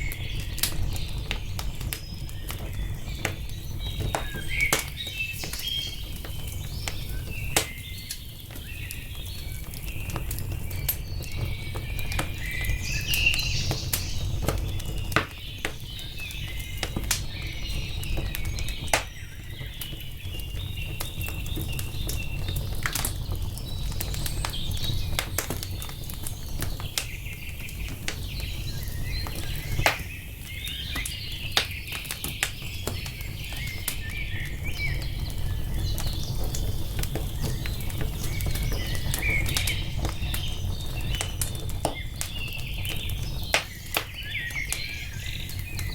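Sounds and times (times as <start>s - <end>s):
songbirds chirping: 0.0s - 45.9s
wood fire crackling and popping: 0.0s - 45.9s.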